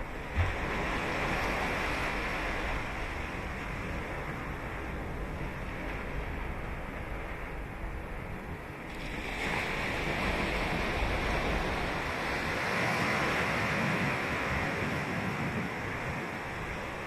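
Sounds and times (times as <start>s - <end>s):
ocean surf breaking on shore: 0.0s - 17.0s.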